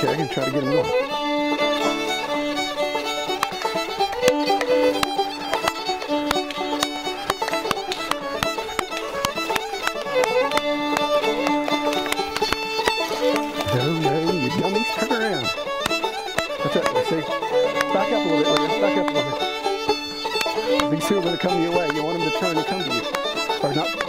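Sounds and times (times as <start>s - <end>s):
fiddle melody: 0.0s - 24.0s
quick sharp accompanying notes: 0.0s - 24.0s.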